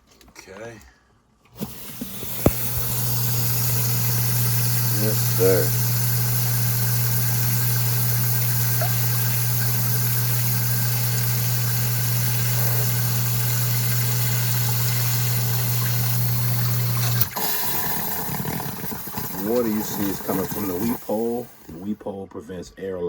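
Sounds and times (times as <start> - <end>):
sump pump humming: 1.5 - 21.9.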